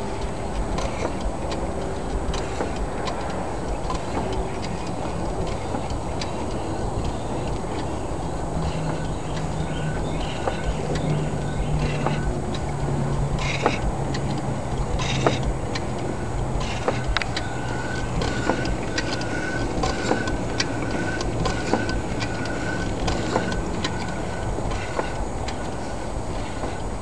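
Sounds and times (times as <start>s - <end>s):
steam engine clicking and knocking: 0.0s - 27.0s.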